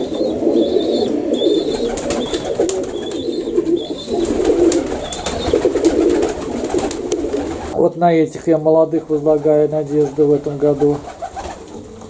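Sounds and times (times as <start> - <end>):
pigeons cooing: 0.0 - 7.8, 8.8 - 12.0.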